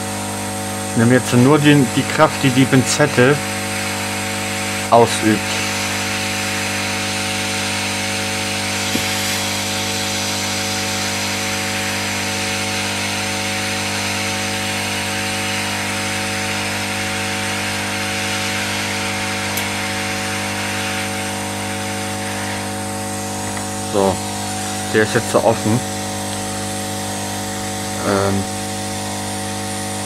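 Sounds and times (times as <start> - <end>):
hot air hiss: 0.0 - 30.0
steady motor hum: 0.0 - 30.0.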